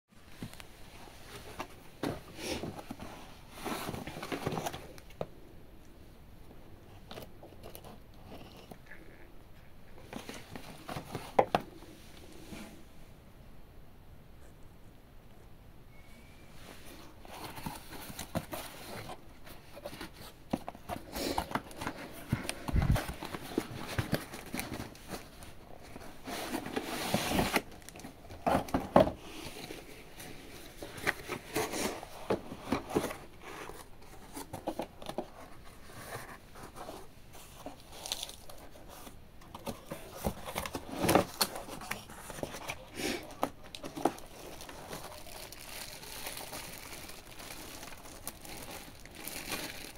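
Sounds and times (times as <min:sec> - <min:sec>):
cardboard rustling and scraping: 0:00.2 - 0:05.2, 0:10.0 - 0:12.9, 0:16.6 - 0:49.9.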